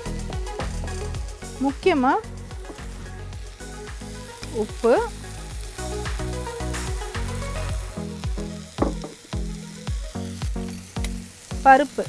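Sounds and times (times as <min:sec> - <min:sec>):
instrumental music with beat: 0:00.0 - 0:04.5, 0:05.2 - 0:11.7
food sizzling in oil: 0:00.0 - 0:12.0.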